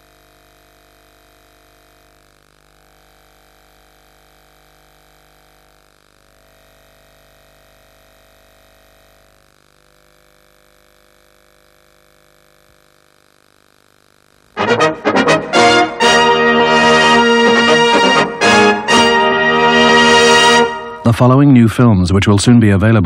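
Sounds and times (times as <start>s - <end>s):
electrical hum with hiss: 0.0s - 23.0s.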